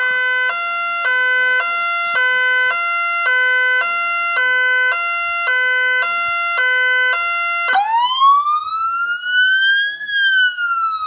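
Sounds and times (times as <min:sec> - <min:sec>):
two-tone fire engine siren: 0:00.0 - 0:11.0.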